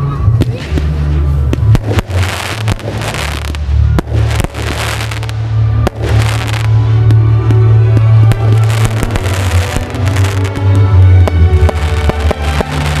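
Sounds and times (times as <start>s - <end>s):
fireworks bursting: 0.0s - 13.0s
loud music with heavy bass: 0.0s - 13.0s.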